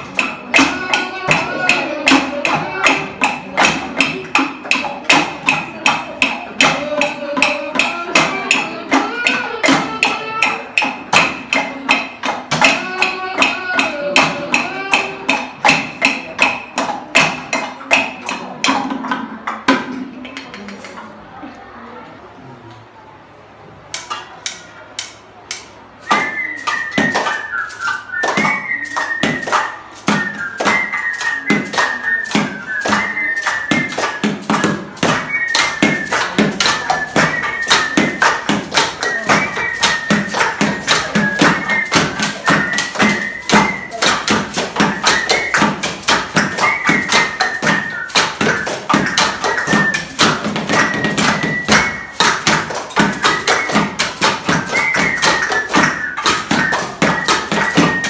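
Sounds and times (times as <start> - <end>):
tapping on desks and tin cans: 0.0 - 21.1, 24.0 - 58.0.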